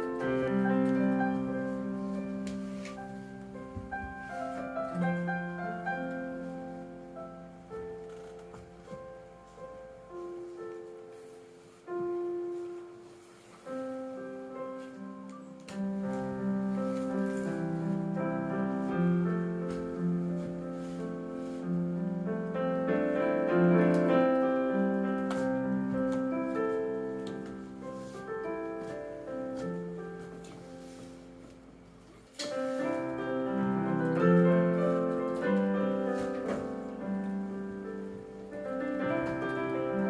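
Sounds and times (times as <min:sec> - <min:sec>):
piano music: 0:00.0 - 0:40.0.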